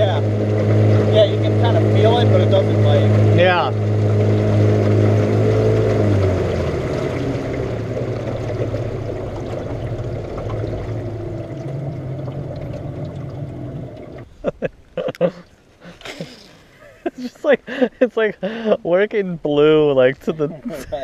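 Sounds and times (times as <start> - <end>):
outboard motor running: 0.0 - 14.6, 15.3 - 18.8
water slapping along hull: 0.0 - 17.2.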